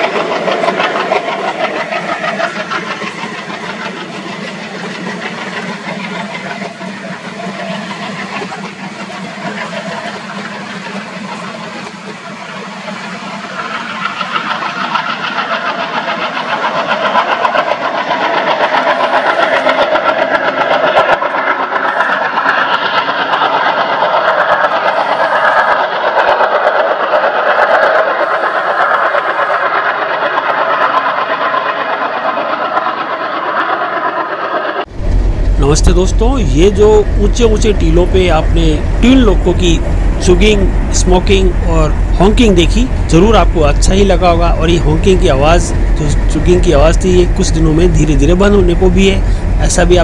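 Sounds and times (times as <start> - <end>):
diesel locomotives chugging: 0.0 - 50.0
train coaches clicking past: 0.0 - 50.0.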